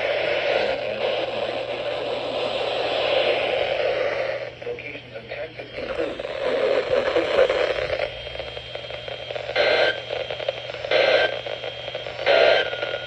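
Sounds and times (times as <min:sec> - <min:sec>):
radio static: 0:00.0 - 0:13.0.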